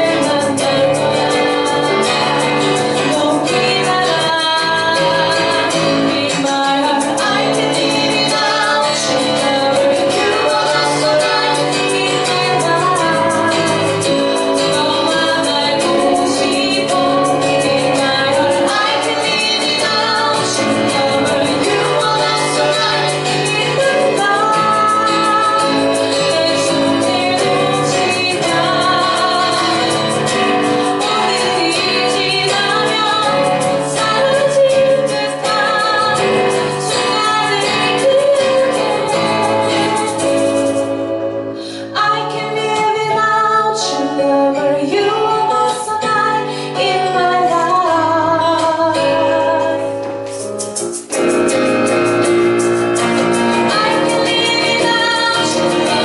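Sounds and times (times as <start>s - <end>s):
woman singing: 0.0s - 50.4s, 51.0s - 56.0s
live band playing: 0.0s - 56.0s.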